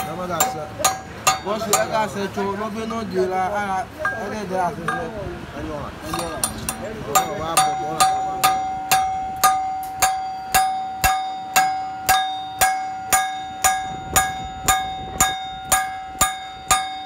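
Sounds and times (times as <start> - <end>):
hammer striking ringing steel plate: 0.0 - 2.3, 4.0 - 5.2, 6.1 - 17.0.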